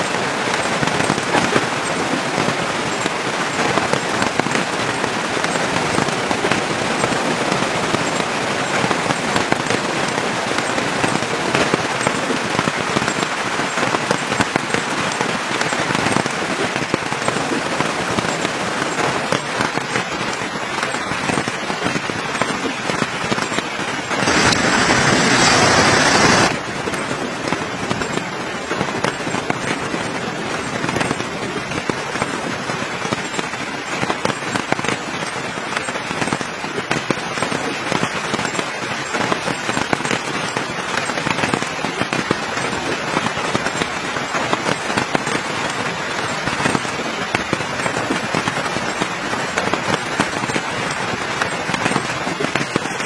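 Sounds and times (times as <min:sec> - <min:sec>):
campfire crackling and popping: 0:00.0 - 0:53.0
loud steady hiss: 0:00.0 - 0:53.0.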